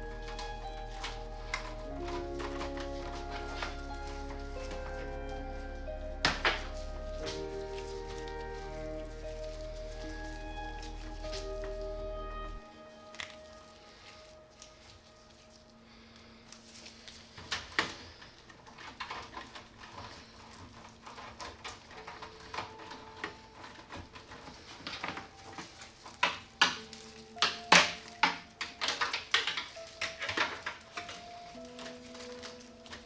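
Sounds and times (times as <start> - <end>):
soft background music: 0.0 - 33.0.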